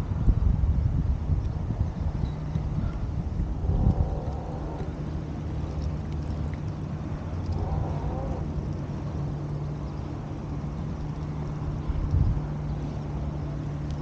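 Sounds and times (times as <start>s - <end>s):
engine humming steadily: 0.0s - 14.0s
low rumble: 0.0s - 14.0s.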